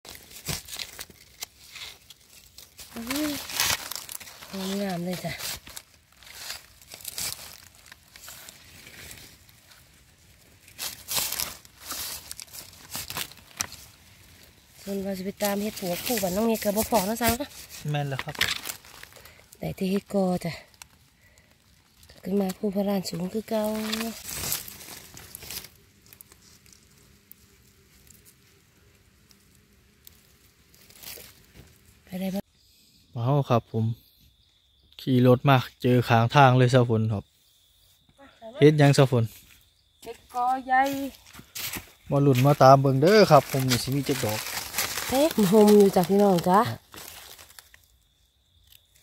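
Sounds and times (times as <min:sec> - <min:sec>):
dry leaves rustling and crackling: 0:00.0 - 0:32.4, 0:40.1 - 0:49.0.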